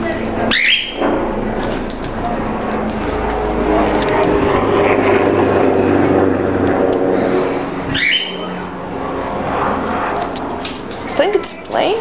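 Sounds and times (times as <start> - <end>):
airplane engines droning overhead: 0.0 - 12.0.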